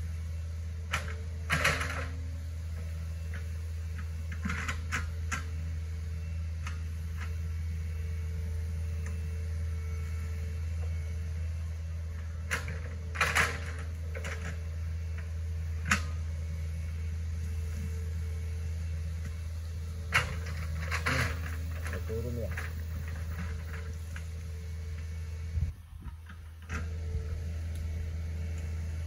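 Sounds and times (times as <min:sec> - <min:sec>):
excavator diesel engine droning: 0:00.0 - 0:29.0.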